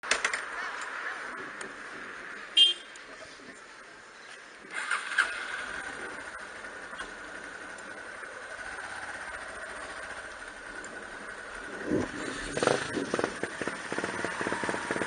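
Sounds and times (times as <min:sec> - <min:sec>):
road vehicle noise: 0:00.0 - 0:15.0.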